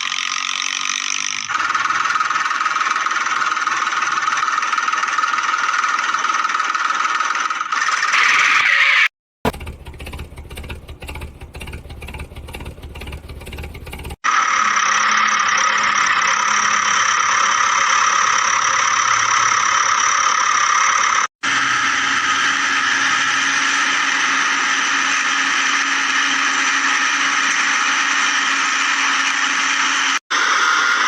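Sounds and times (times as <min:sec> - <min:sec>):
small motor whirring: 0:00.0 - 0:31.0.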